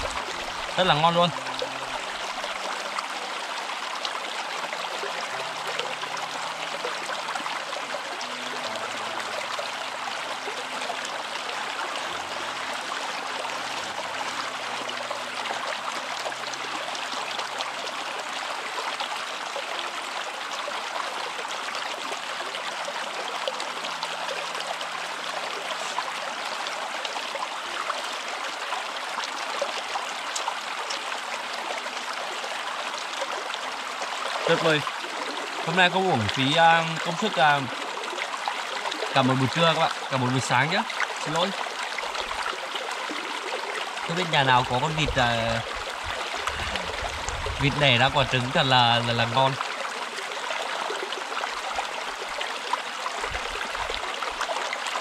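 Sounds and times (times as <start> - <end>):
stream water babbling: 0.0 - 55.0.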